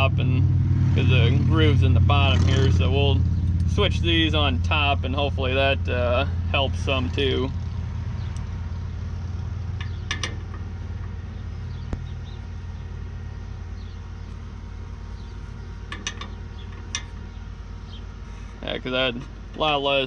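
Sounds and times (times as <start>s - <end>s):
engine idling hum: 0.0s - 20.0s.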